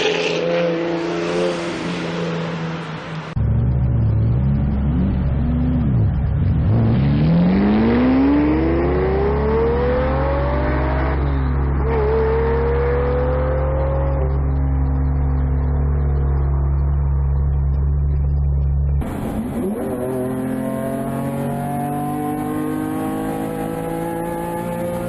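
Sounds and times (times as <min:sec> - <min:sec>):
car engine revving and accelerating: 0:00.0 - 0:25.0.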